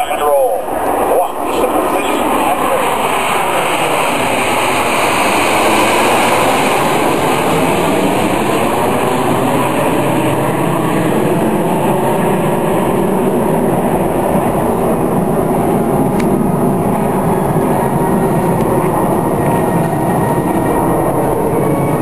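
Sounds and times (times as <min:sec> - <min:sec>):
jets flying overhead: 0:00.0 - 0:22.0.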